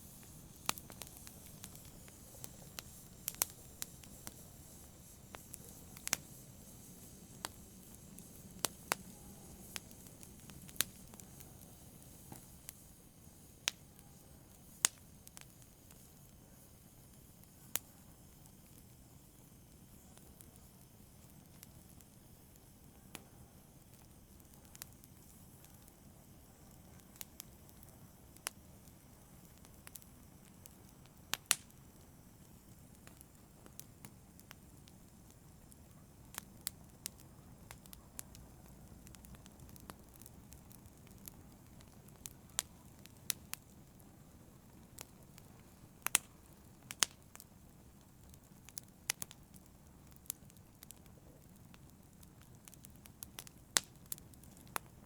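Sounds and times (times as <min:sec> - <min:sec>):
faint low hiss: 0:00.0 - 0:55.0
fire crackling with snaps and pops: 0:00.0 - 0:55.0.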